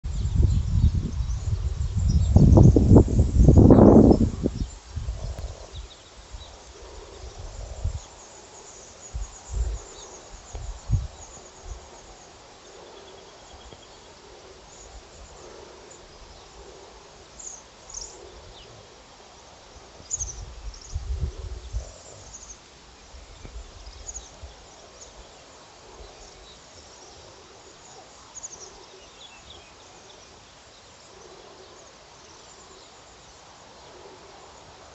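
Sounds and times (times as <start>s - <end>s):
background hiss: 0.0s - 34.9s.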